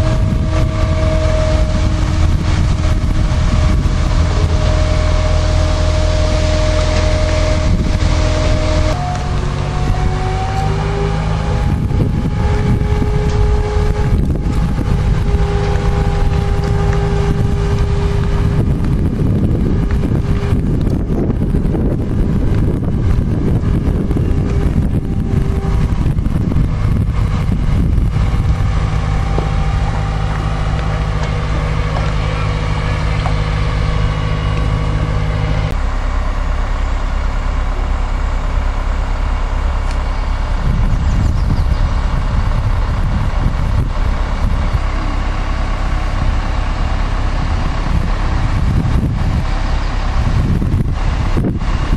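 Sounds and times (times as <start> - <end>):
crane engine droning: 0.0 - 51.9
wind buffeting microphone: 0.0 - 51.9.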